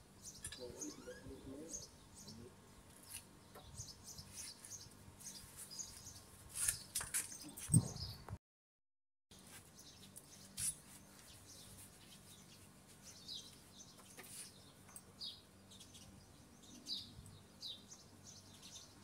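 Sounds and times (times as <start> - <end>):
small birds chirping: 0.0 - 8.3, 9.4 - 19.0.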